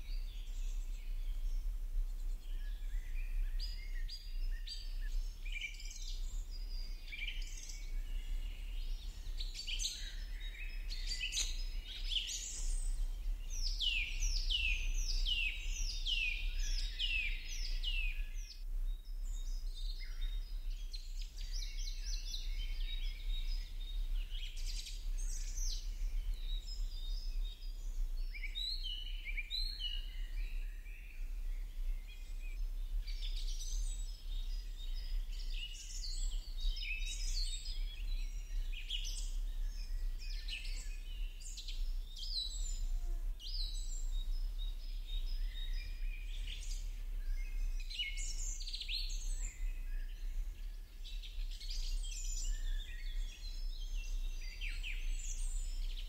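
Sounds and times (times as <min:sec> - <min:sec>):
birds chirping and singing: 0:02.3 - 0:56.0.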